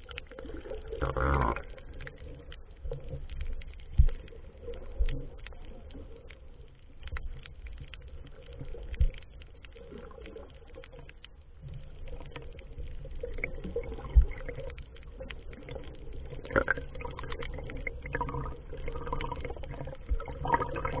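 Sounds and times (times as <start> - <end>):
muffled underwater rumble: 0.0 - 21.0
sharp clicks underwater: 0.0 - 21.0.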